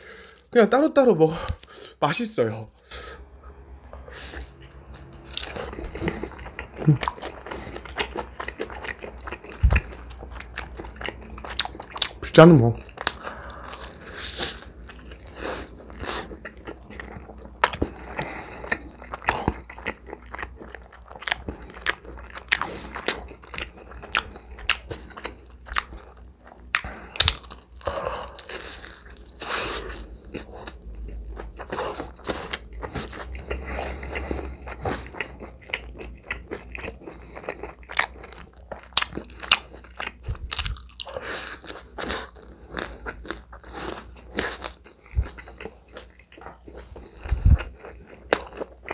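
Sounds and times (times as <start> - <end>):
crunchy biting and chewing: 4.3 - 48.9.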